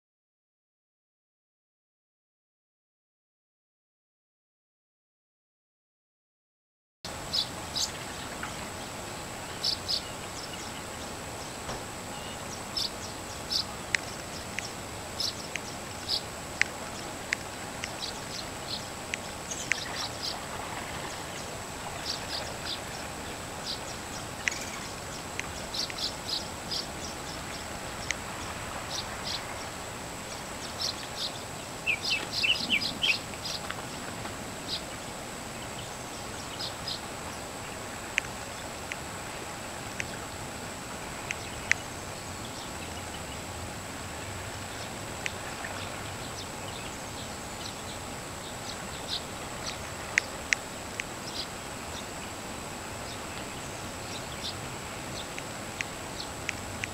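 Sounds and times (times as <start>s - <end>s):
steady outdoor hiss: 7.1s - 56.9s
small birds chirping: 7.2s - 39.0s, 41.2s - 43.8s, 44.5s - 56.9s.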